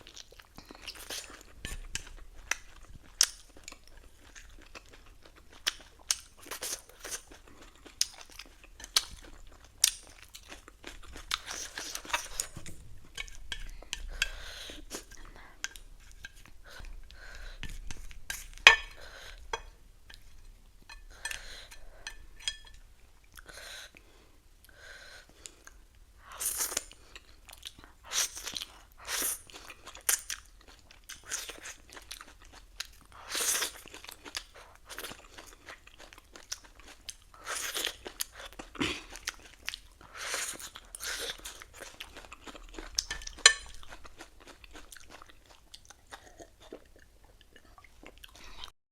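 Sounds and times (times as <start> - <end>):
person chewing crisp lettuce: 0.0 - 19.7, 26.5 - 48.7.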